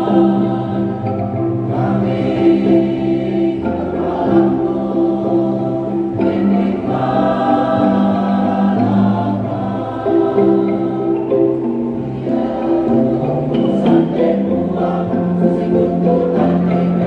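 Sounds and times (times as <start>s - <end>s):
choir singing sustained chords: 0.0s - 17.0s
wooden xylophones struck: 0.0s - 17.0s.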